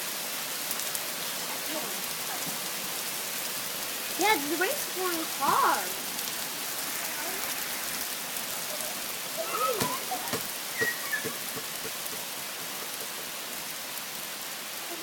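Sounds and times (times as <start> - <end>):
heavy rain falling: 0.0 - 15.0
sharp raindrop hits: 1.7 - 15.0.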